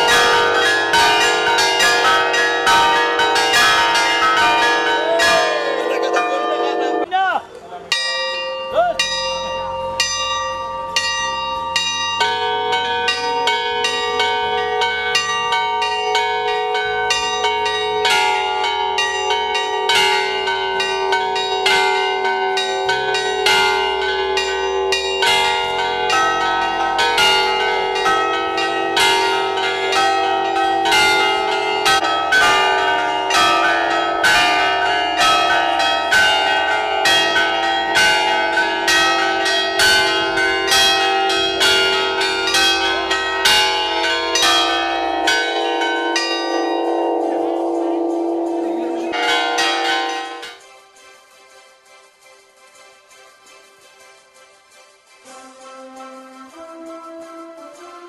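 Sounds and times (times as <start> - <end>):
church bells ringing: 0.0 - 51.3.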